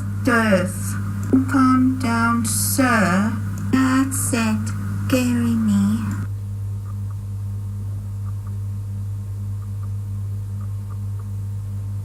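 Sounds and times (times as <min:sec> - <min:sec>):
faint pulsing tone: 0:00.0 - 0:12.0
steady low hum: 0:00.0 - 0:12.0.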